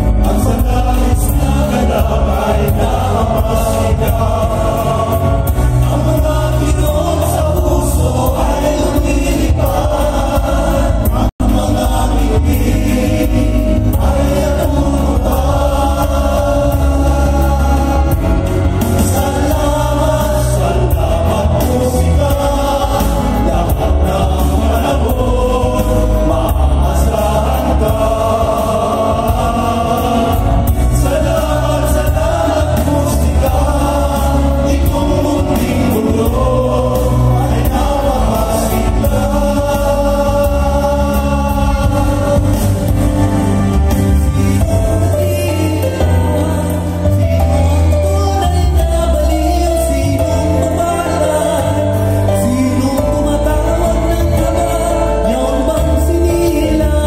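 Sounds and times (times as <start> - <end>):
amplified music with heavy bass: 0.0 - 57.0
male vocal group singing: 0.0 - 57.0.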